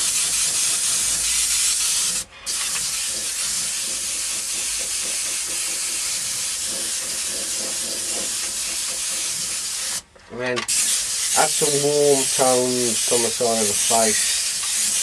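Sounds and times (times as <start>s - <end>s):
airbrush hissing: 0.0s - 10.1s, 10.7s - 15.0s.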